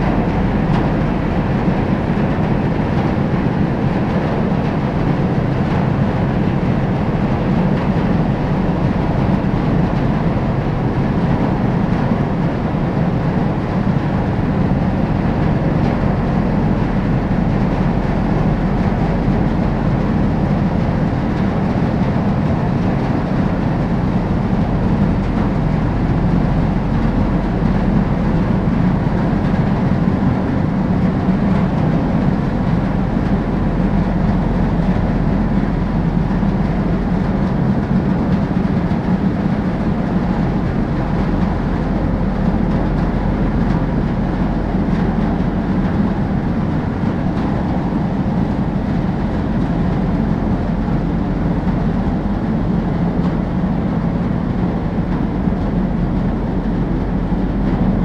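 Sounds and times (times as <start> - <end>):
churning water: 0.0 - 58.0
ship engines rumbling: 0.0 - 58.0.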